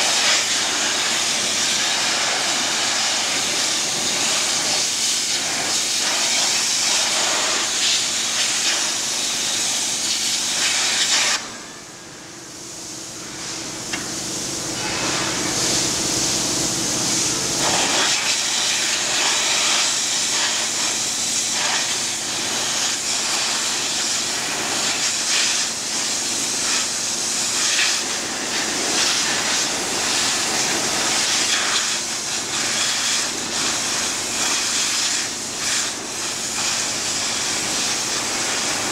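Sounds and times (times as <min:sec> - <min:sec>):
steady hum: 0:00.0 - 0:32.9
pressure washer spray hissing: 0:00.0 - 0:38.9.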